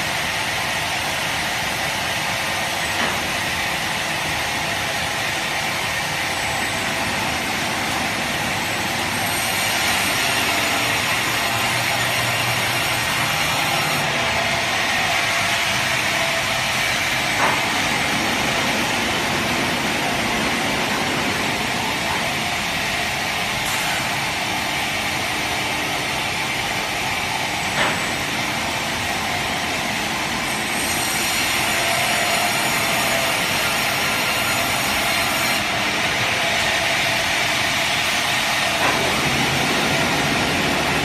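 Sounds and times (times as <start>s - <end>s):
band saw whirring: 4.6s - 41.0s.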